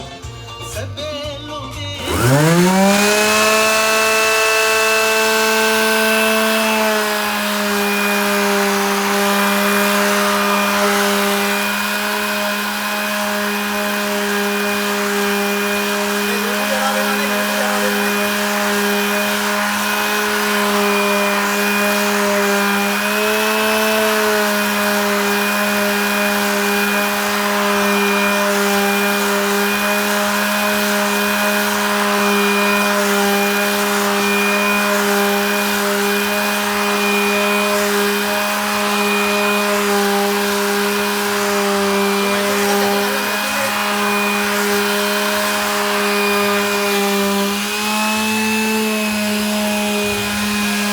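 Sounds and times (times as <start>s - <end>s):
power tool motor whining: 1.8s - 50.9s.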